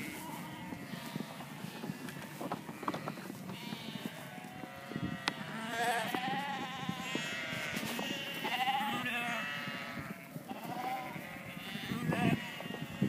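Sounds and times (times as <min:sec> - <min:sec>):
sheep and lambs bleating: 0:00.0 - 0:13.0.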